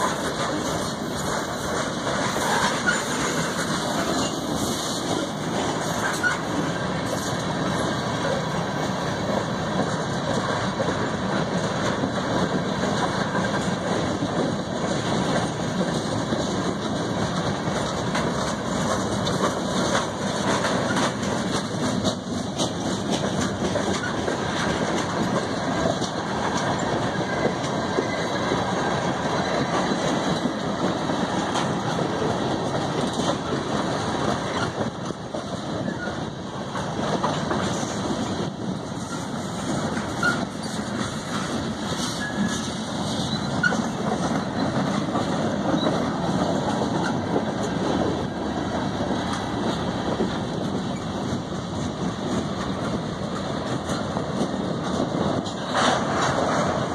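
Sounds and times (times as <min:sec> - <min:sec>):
train wheels rumbling on rail: 0:00.0 - 0:56.9
wheels clicking over rail joints: 0:00.0 - 0:56.9.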